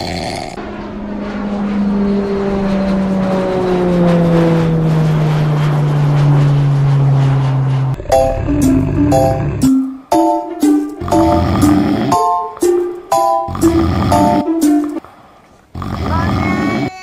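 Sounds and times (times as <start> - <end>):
jet airliner flying past: 0.5 - 15.1.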